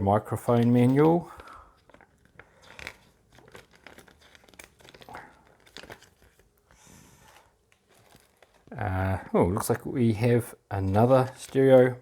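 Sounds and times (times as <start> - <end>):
packaging and paper rustling: 0.3 - 12.0.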